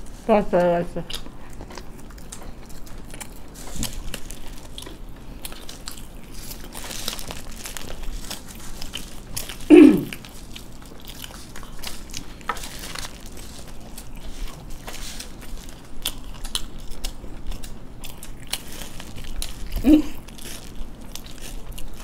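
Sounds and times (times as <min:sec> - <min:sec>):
crunchy chewing: 0:01.0 - 0:22.0.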